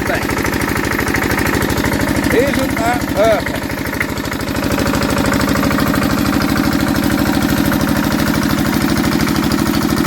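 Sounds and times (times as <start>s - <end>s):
diesel engine knocking: 0.0s - 10.0s.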